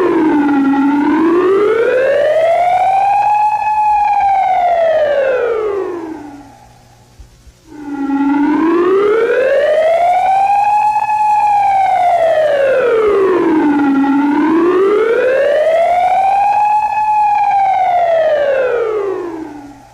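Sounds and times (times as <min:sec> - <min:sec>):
civil defense siren wailing: 0:00.0 - 0:19.9.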